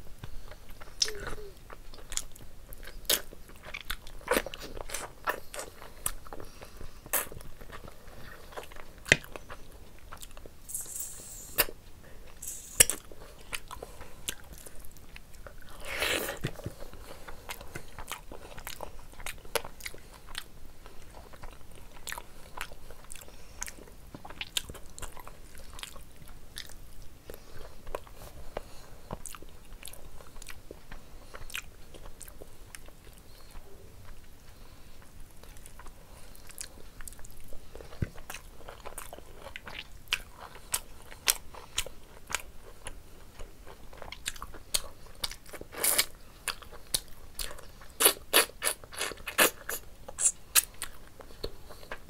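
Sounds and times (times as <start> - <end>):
chewing and mouth sounds: 0.2 - 52.0.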